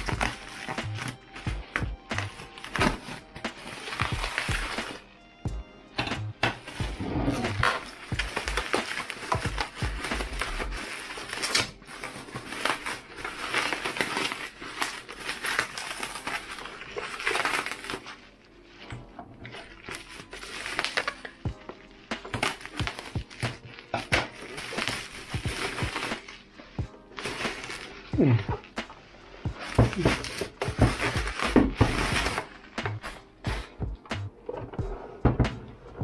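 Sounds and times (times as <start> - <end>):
bubble wrap crinkling: 0.0 - 5.4, 6.4 - 34.1.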